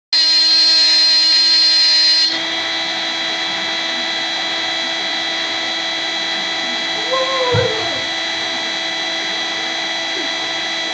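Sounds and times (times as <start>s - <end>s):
milling machine motor whine: 0.4s - 10.9s.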